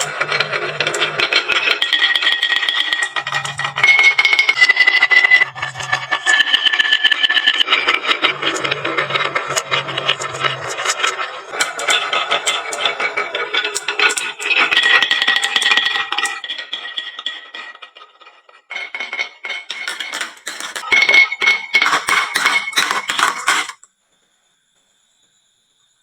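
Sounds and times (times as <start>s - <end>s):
marbles clattering down wooden slope: 0.0s - 18.0s, 18.9s - 23.8s.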